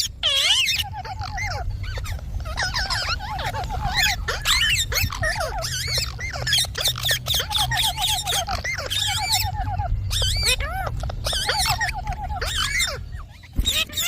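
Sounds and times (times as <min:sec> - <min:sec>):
parakeet chattering: 0:00.0 - 0:14.0.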